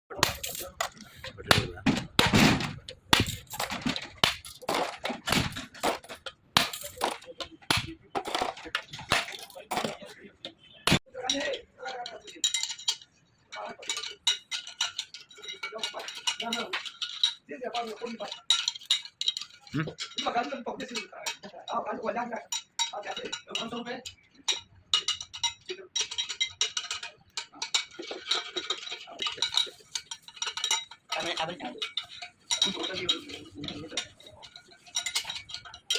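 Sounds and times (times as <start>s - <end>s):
hard objects knocking and clattering: 0.1s - 35.9s
metallic clinking and clicking: 0.1s - 35.9s.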